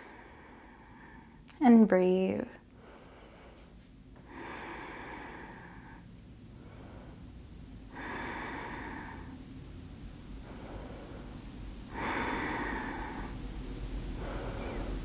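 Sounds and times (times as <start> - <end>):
woman breathing deeply: 0.0 - 1.5, 2.7 - 15.0.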